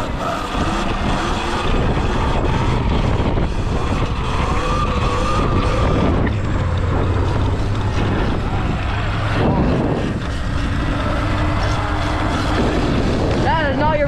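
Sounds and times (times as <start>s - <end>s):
electric motor whine: 0.0s - 14.0s
wind rumble on microphone: 0.0s - 14.0s.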